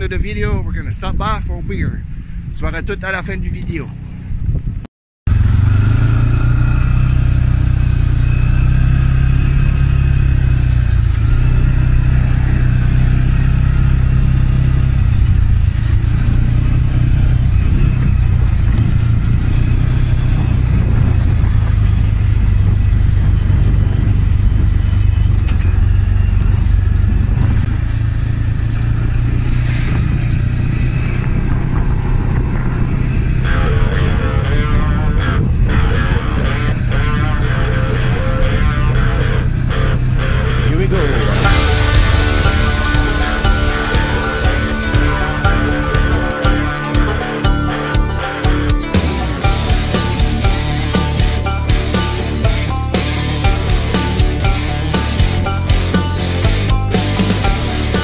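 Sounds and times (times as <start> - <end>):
atv engine running: 2.0 - 58.0.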